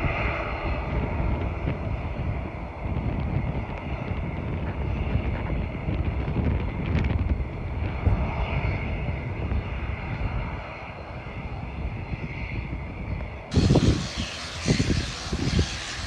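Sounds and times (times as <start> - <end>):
airliner engines rumbling and whining: 0.0 - 16.0
wind gusts hitting microphone: 0.0 - 16.0.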